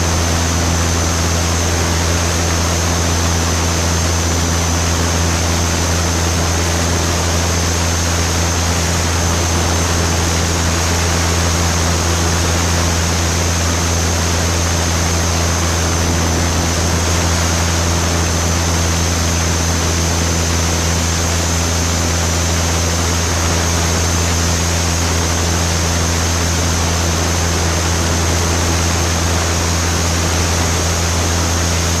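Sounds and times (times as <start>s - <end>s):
propeller plane engine drone: 0.0s - 32.0s.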